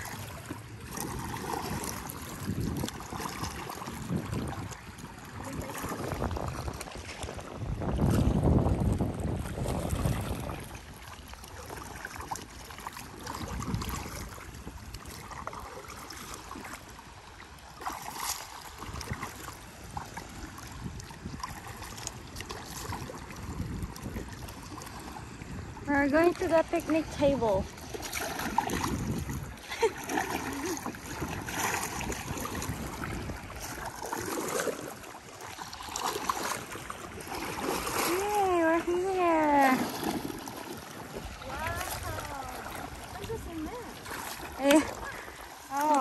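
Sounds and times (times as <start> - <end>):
wind on microphone: 0.0 - 16.7, 18.5 - 46.0
paddle strokes in water: 0.0 - 46.0
water splashing against paddle board: 0.0 - 46.0.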